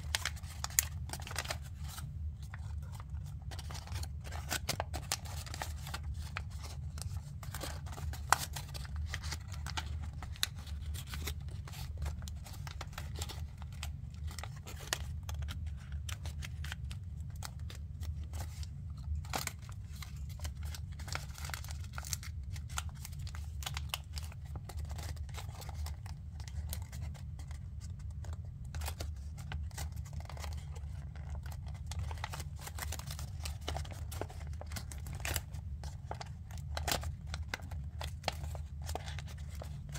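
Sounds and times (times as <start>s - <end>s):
paper crinkling while folded: 0.0s - 39.9s.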